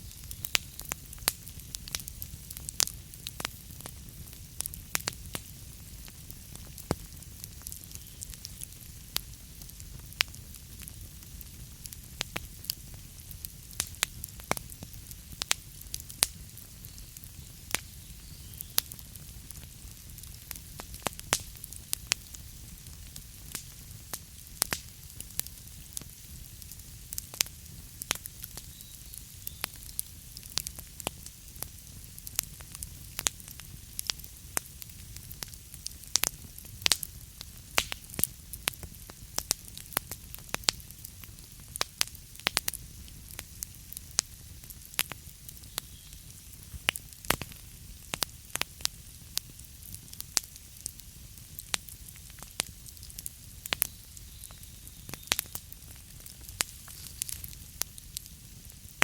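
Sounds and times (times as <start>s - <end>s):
wood fire crackling in fireplace: 0.0s - 59.0s.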